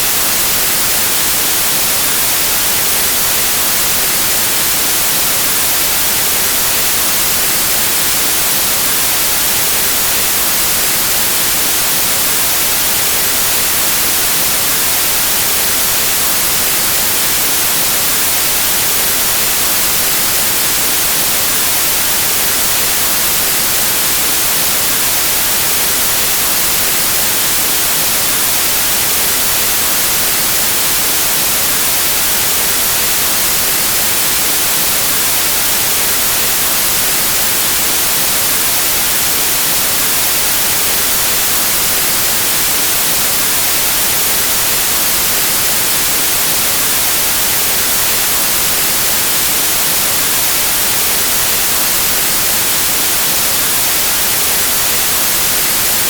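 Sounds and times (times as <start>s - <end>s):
white noise static hiss: 0.0s - 56.0s.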